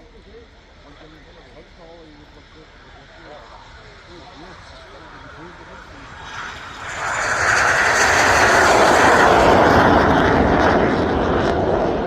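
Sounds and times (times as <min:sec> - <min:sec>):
jet aircraft engine roar: 0:00.0 - 0:12.0.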